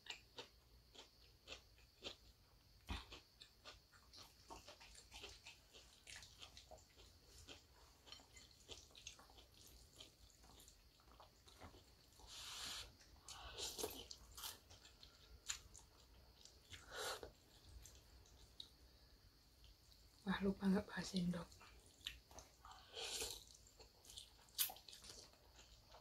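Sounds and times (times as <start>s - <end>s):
person chewing: 0.0s - 18.8s, 21.5s - 26.0s.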